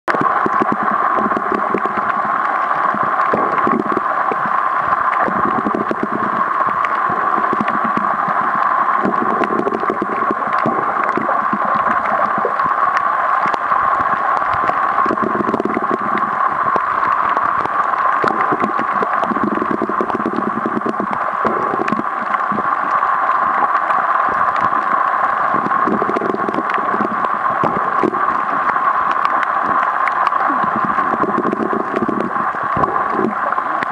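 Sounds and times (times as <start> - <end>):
low muffled water swell: 0.1 - 33.9
muffled underwater hiss: 0.1 - 33.9
underwater clicks and crackles: 0.1 - 33.9.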